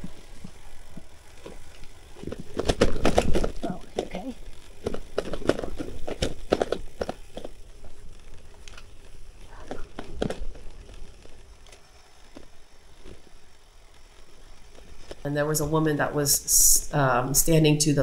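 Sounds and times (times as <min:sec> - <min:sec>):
bike rattling over bumps: 0:00.0 - 0:16.2.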